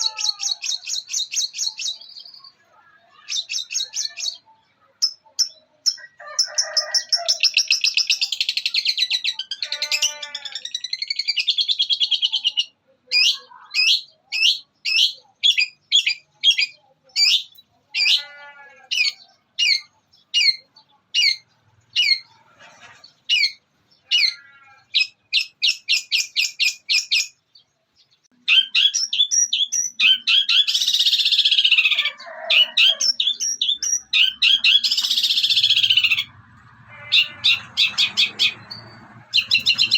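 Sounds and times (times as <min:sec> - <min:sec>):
shrike singing mimicking song: 0:00.0 - 0:27.4, 0:28.3 - 0:39.9.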